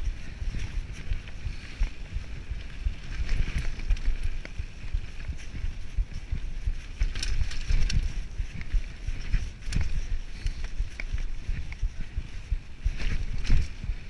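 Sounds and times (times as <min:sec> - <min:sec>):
bike clicks and rattles: 0:00.0 - 0:14.0
wind buffeting microphone: 0:00.0 - 0:14.0
bike tyres crunching over stones: 0:00.1 - 0:14.0.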